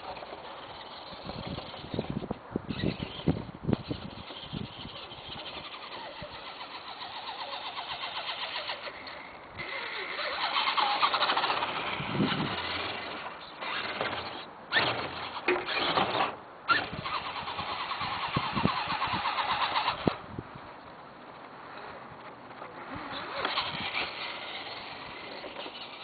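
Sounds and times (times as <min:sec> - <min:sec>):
small nitro engine running: 0:00.0 - 0:20.2, 0:22.6 - 0:26.0.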